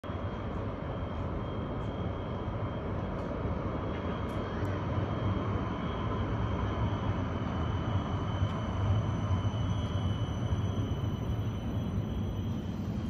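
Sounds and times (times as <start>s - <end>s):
city street rumble: 0.0s - 13.0s
faint high-pitched whine: 0.0s - 13.0s.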